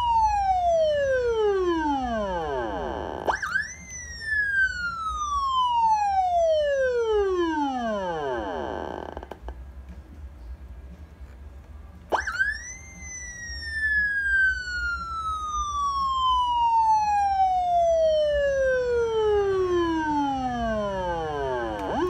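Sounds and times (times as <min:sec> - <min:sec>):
electronic siren sweeping: 0:00.0 - 0:09.4, 0:12.1 - 0:22.0.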